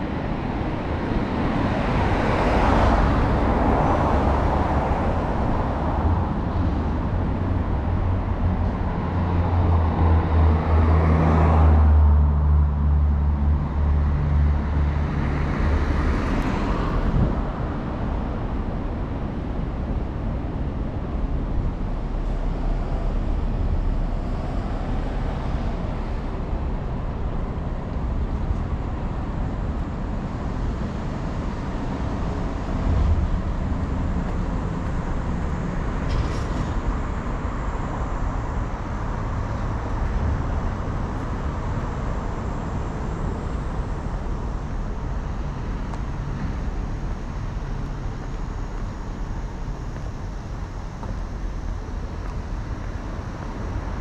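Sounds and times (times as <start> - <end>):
cars going by: 0.0 - 54.0.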